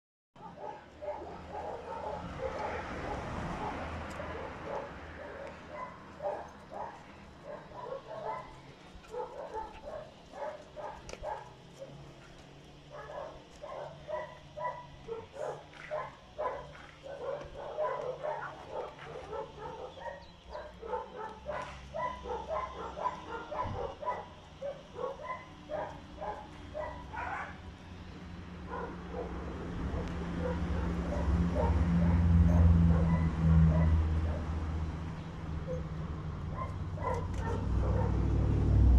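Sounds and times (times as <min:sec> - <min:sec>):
dogs barking and yipping: 0:00.4 - 0:38.8.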